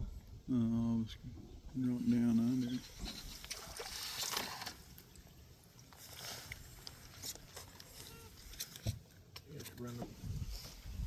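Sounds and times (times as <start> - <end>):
water sloshing around boat: 1.4 - 11.0.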